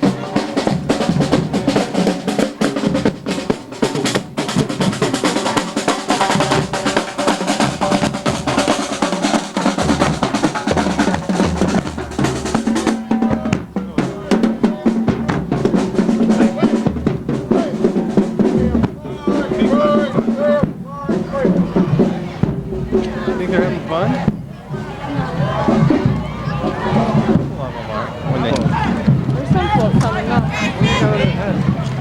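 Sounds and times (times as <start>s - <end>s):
bass drum beats: 0.0s - 32.0s
snare drum rolls: 0.0s - 32.0s.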